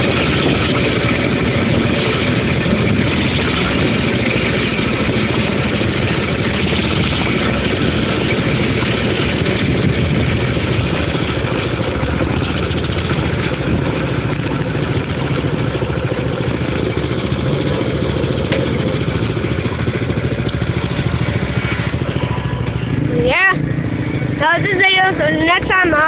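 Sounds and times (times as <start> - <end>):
dirt bike engine idling: 0.0 - 26.0.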